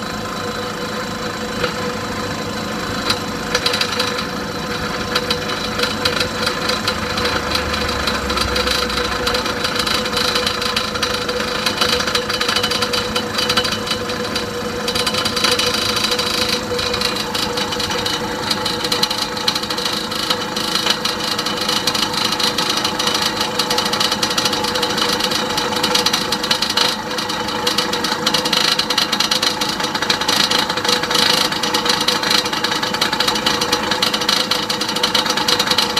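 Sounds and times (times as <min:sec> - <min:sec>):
air compressor running: 0:00.0 - 0:35.9.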